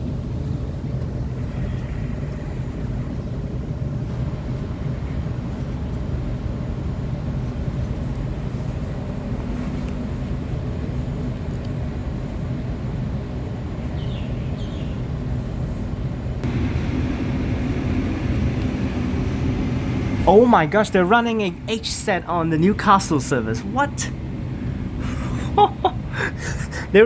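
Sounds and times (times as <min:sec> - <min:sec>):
constant hum: 0:00.0 - 0:27.0
train rumble inside carriage: 0:00.0 - 0:27.0.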